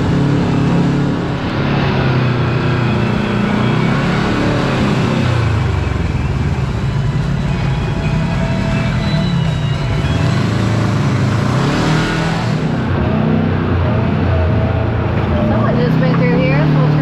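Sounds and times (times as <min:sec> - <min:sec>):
vehicle engine revving on trail: 0:00.0 - 0:17.0.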